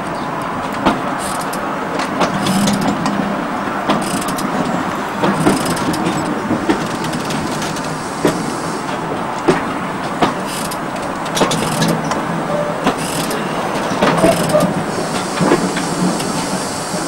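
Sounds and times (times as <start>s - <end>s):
rail clicks and knocks: 0.0s - 17.0s
train wheels rumbling on track: 0.0s - 17.0s.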